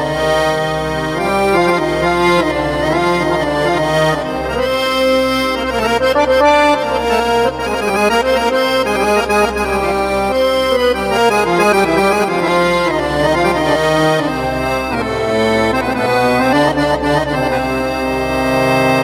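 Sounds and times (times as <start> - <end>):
keyboard accordion melody: 0.0 - 19.0.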